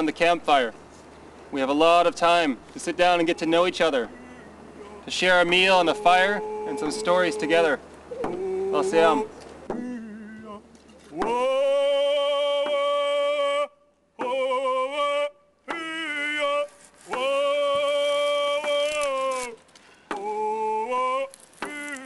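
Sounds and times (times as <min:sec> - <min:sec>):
person singing slowly: 0:03.4 - 0:22.0.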